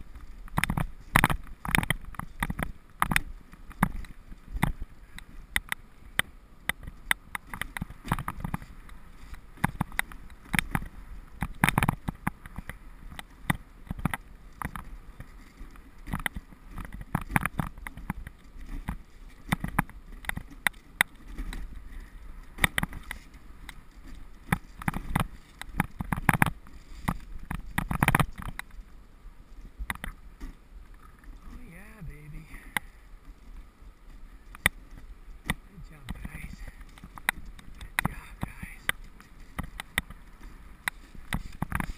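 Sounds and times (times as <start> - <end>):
sled knocking and rattling: 0.0 - 28.9, 34.4 - 41.9
sled runners scraping on snow: 0.0 - 41.9.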